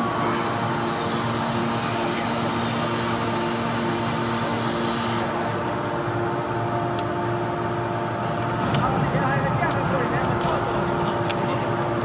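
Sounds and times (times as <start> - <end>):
hydraulic machine hum: 0.0 - 12.0.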